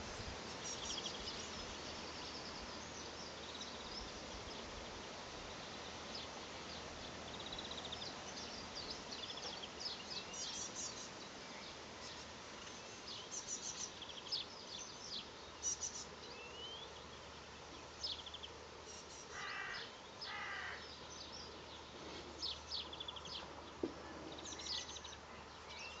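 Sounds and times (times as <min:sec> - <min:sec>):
small birds chirping and trilling: 0:00.4 - 0:26.0.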